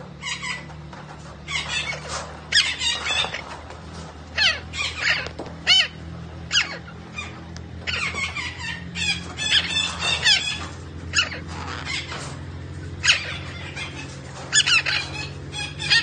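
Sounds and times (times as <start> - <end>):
parrot calling: 0.1 - 0.8, 1.4 - 16.0.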